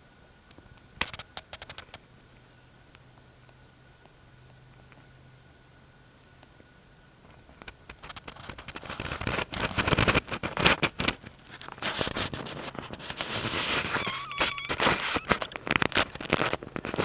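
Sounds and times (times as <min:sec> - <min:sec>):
close crackling and rustling: 0:00.4 - 0:05.2, 0:06.4 - 0:17.0.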